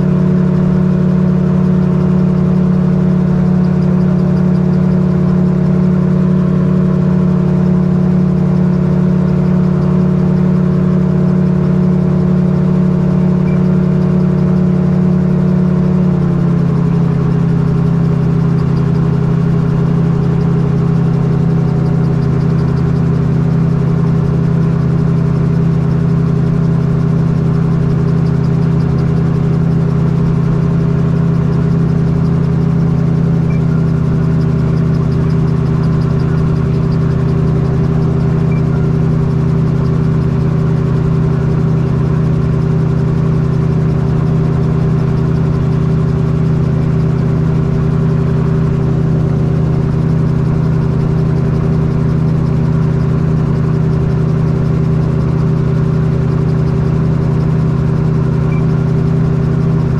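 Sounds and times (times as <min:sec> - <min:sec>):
gyrocopter engine droning: 0:00.0 - 0:59.9.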